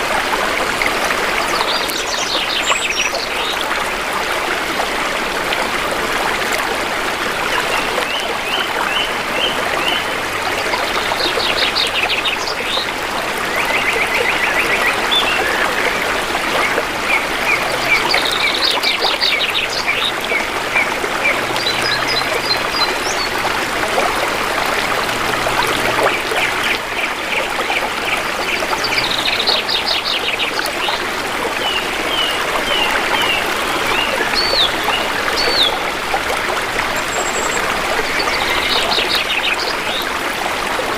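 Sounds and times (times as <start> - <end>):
shallow river flowing: 0.0 - 40.9.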